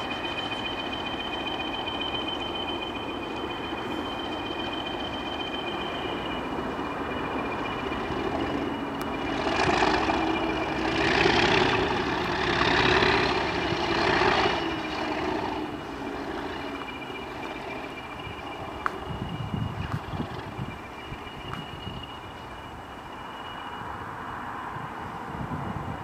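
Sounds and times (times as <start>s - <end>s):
diesel locomotive engine running: 0.0s - 26.0s
steady high whine: 0.0s - 26.0s.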